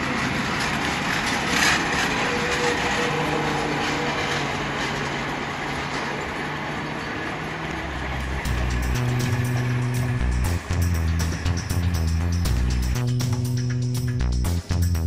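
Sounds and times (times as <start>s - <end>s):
sharp rail clicks: 0.0s - 14.7s
train wheels rumbling on rails: 0.0s - 15.0s.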